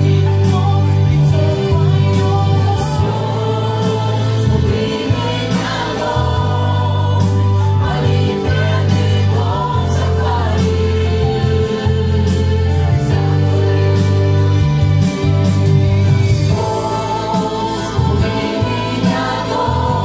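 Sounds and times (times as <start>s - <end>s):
man and women singing: 0.0s - 14.3s, 16.4s - 20.0s
music with held bass notes: 0.0s - 20.0s.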